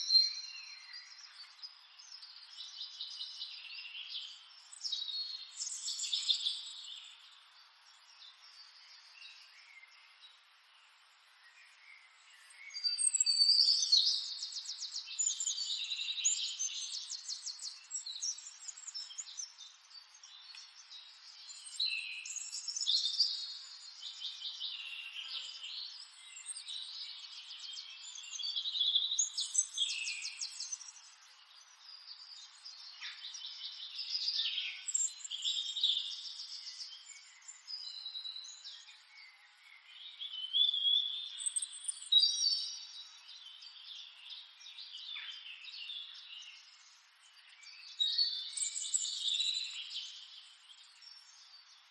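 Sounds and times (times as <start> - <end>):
songbirds singing trilled phrases: 0.0 - 51.9.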